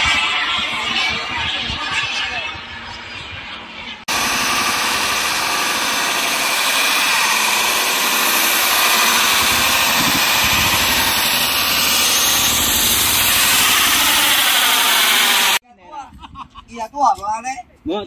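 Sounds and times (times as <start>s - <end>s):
model jet turbine roar: 0.0s - 15.6s.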